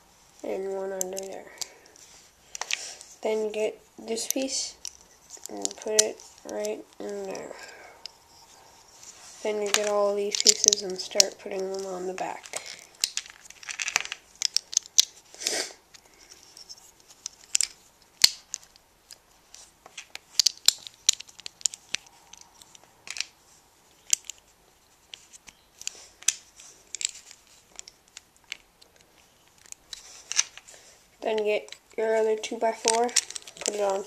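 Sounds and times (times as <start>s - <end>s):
scraping rustles: 0.0s - 34.0s
plastic bricks clicking and snapping: 0.4s - 3.1s, 4.2s - 8.2s, 9.6s - 15.2s, 15.9s - 24.5s, 25.1s - 34.0s.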